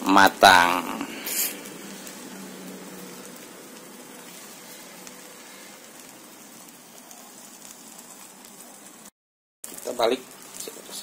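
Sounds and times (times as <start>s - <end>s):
omelette sizzling in oil: 0.0s - 11.0s.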